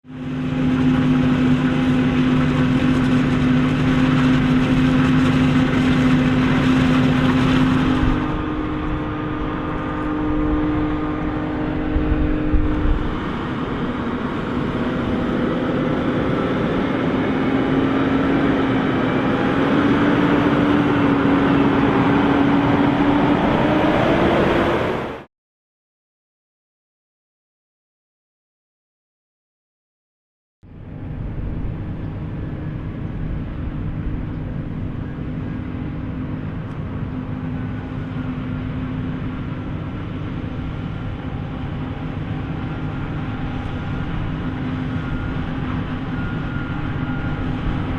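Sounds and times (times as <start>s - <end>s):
heavy farm machinery engines: 0.1s - 25.3s, 30.7s - 47.9s.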